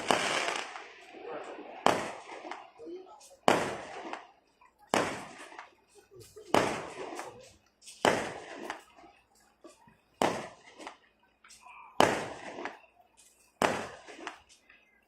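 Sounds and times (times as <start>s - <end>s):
fireworks bangs: 0.0s - 14.7s
fireworks crackles: 0.0s - 15.0s.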